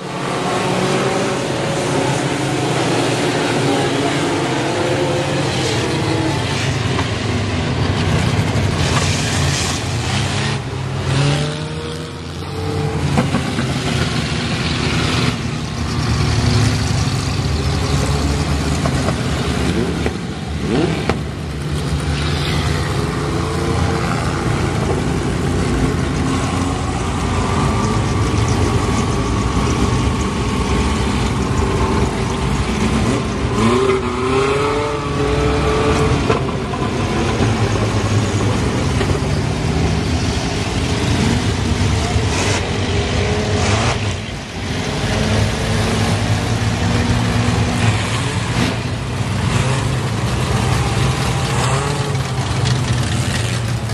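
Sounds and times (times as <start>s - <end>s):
race car engines droning: 0.0s - 53.9s.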